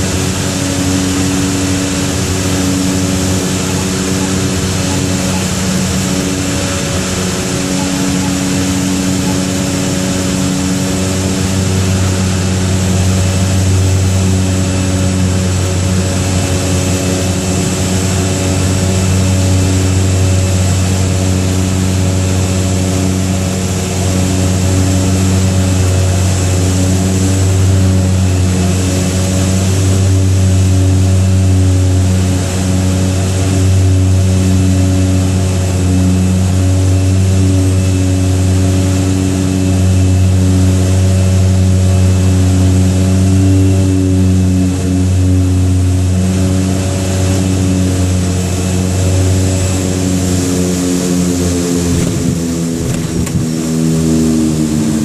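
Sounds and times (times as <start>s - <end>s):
propeller hum: 0.0s - 55.0s.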